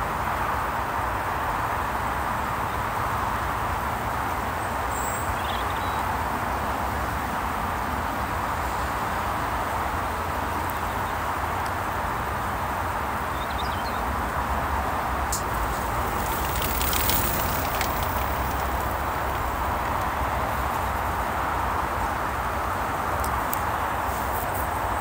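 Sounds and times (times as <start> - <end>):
motorway traffic rushing: 0.0 - 25.0.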